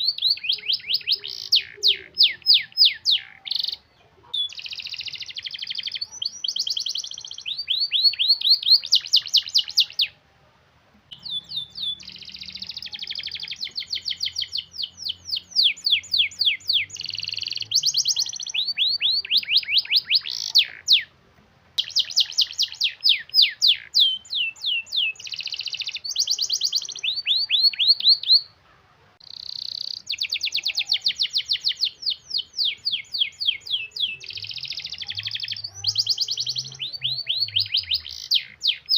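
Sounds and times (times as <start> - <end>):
canary singing rapid rolls: 0.0 - 10.2, 11.1 - 38.9.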